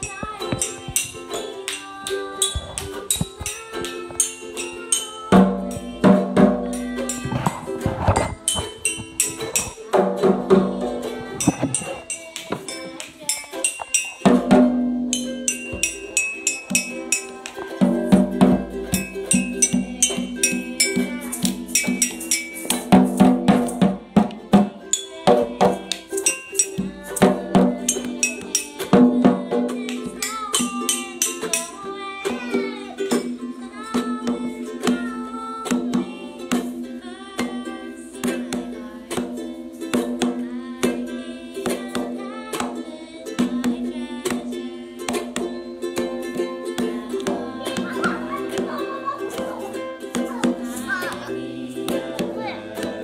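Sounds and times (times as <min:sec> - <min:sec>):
shakers and hand percussion: 0:00.0 - 0:53.0
strummed ukulele: 0:00.0 - 0:53.0
woman singing: 0:00.0 - 0:53.0.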